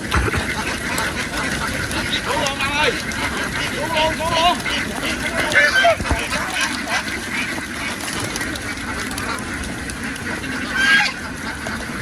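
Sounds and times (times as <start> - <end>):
ducks quacking: 0.0 - 12.0
loud duck call: 0.1 - 12.0.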